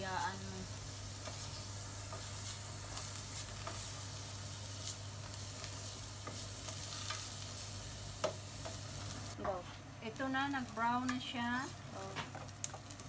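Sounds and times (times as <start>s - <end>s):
onion sizzling in a pot: 0.0s - 13.0s.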